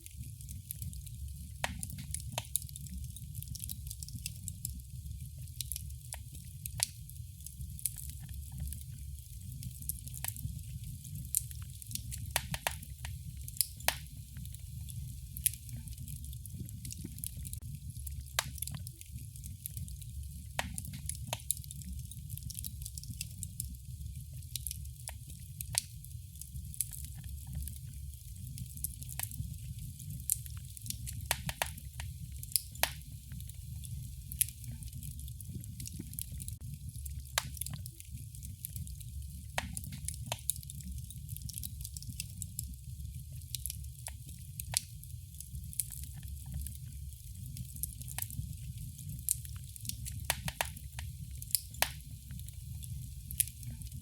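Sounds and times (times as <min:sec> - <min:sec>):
fire pops and snaps: 0:00.0 - 0:54.0
low rumble of fire: 0:00.0 - 0:54.0
wood fire crackling: 0:00.0 - 0:54.0.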